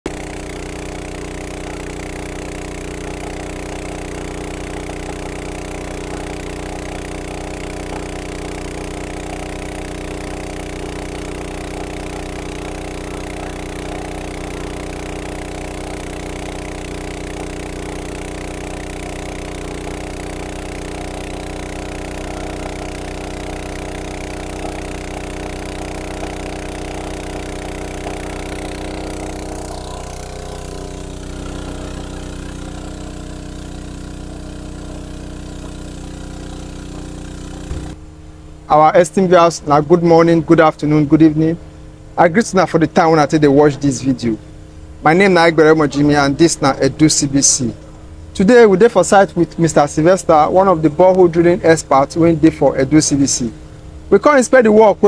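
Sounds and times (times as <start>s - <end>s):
petrol engine water pump running: 0.0s - 55.0s.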